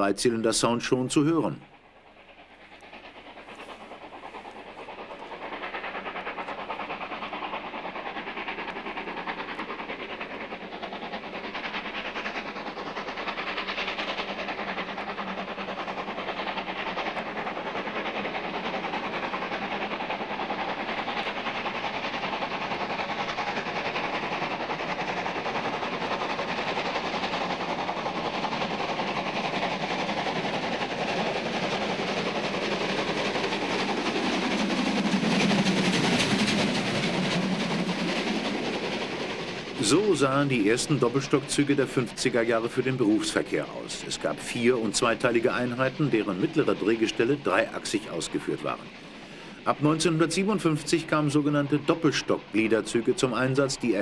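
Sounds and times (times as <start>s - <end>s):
steam locomotive exhaust chuffing: 0.0s - 54.0s.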